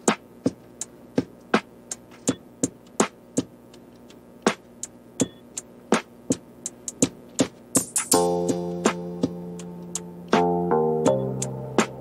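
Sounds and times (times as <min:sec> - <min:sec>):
sparse dry beat of clicks: 0:00.0 - 0:12.0.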